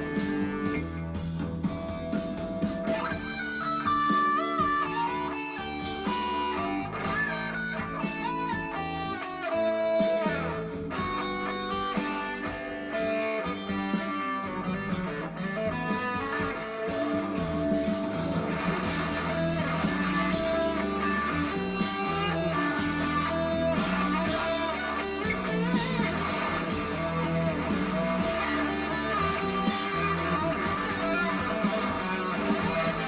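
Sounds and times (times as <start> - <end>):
fuzz electric guitar lead: 0.0 - 33.0
rock backing track with drums: 0.0 - 33.0.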